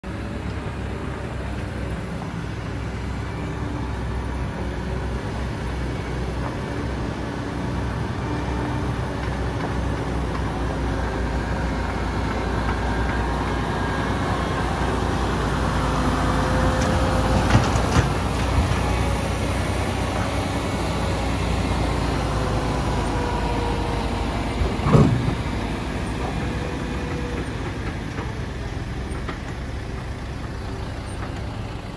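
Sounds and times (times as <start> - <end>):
truck diesel engine rumble: 0.0 - 31.9.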